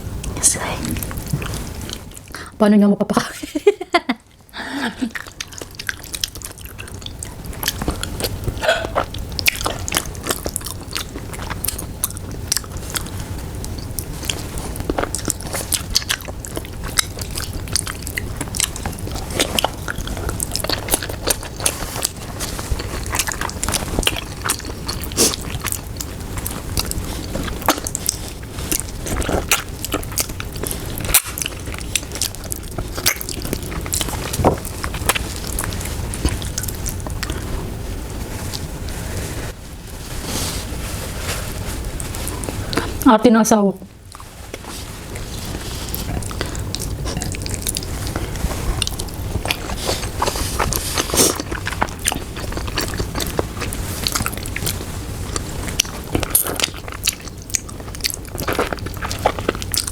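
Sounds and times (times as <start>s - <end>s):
low background hum: 0.0s - 59.9s
chewing and biting: 5.1s - 37.6s, 44.0s - 59.9s.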